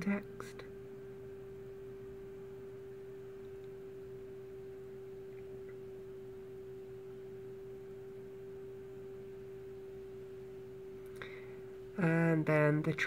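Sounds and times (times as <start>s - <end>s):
steady mid-pitch hum: 0.0s - 13.0s.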